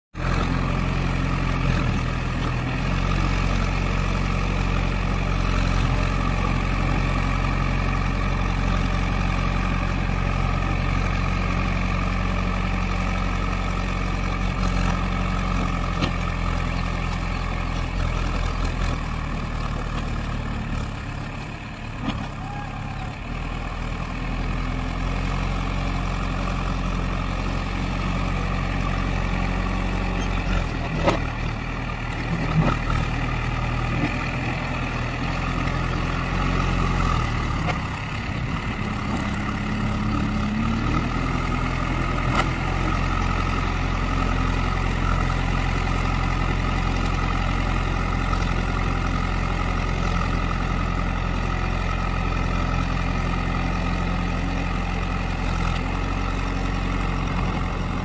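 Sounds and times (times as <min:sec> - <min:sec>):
diesel engine running: 0:00.2 - 0:58.0.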